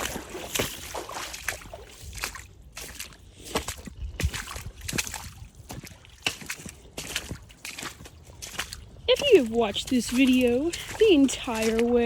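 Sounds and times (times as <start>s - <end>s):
boots splashing through shallow water: 0.0s - 12.0s.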